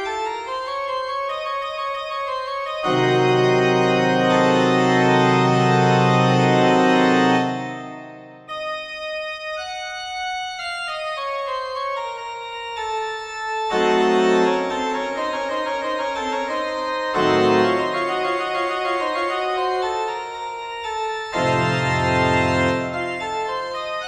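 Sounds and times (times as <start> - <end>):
classical instrumental music: 0.0 - 24.0.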